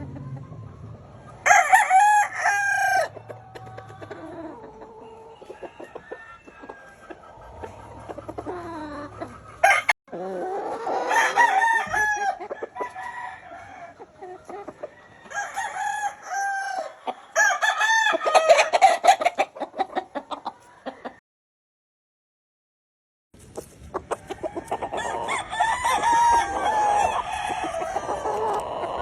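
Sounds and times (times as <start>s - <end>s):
roosters crowing: 0.0s - 19.4s, 24.1s - 29.0s
chickens clucking: 0.0s - 21.2s, 23.4s - 29.0s.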